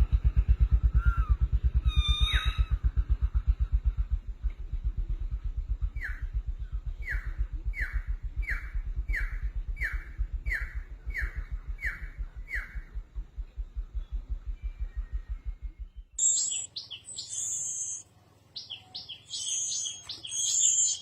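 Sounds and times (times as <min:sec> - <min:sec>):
low rapid throbbing: 0:00.0 - 0:18.0.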